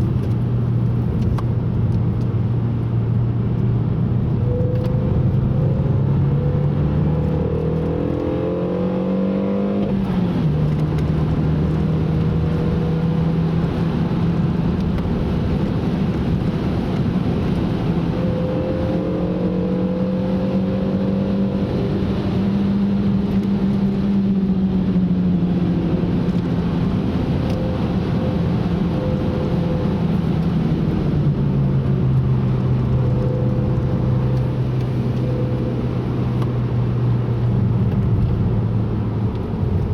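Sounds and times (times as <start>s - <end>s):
road and wind noise: 0.0s - 39.9s
car engine revving: 4.3s - 39.9s.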